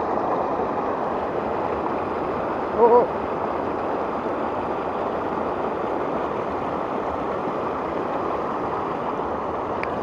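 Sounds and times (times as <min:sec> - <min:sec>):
river rushing over rapids: 0:00.0 - 0:10.0.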